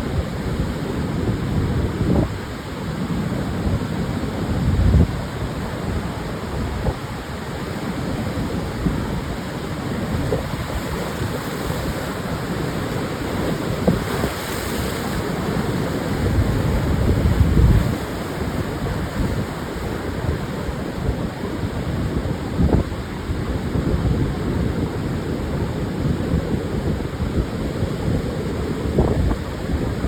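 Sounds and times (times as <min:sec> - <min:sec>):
waves breaking on beach: 0:00.0 - 0:30.0
wind buffeting microphone: 0:04.5 - 0:30.0.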